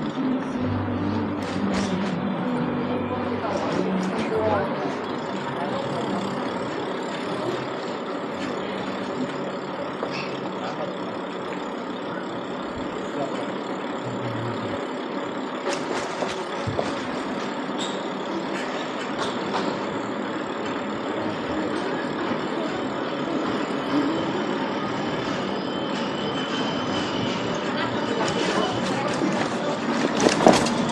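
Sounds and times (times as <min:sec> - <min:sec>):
road noise: 0:00.0 - 0:30.9.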